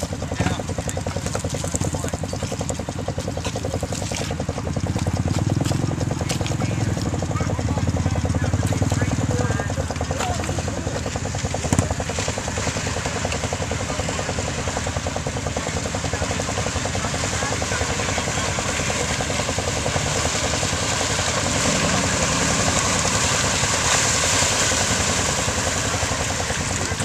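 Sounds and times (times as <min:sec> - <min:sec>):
tracks crawling through mud: 0:00.0 - 0:27.0
vehicle engine running: 0:00.0 - 0:27.0.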